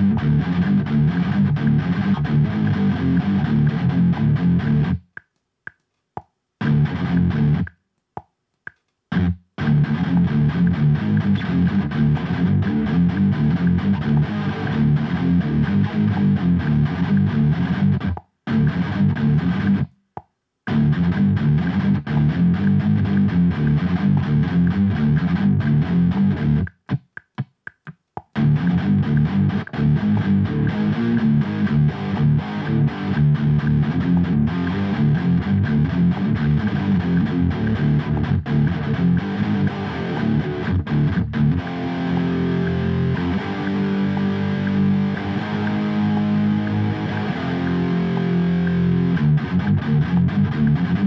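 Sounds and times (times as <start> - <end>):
distorted electric guitar riffs: 0.0 - 5.2, 6.6 - 7.7, 9.1 - 20.0, 20.7 - 27.1, 28.3 - 51.0.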